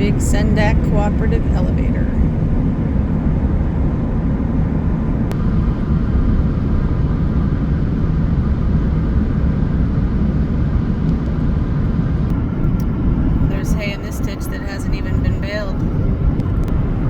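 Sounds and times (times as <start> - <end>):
road and engine noise inside vehicle: 0.0 - 17.0.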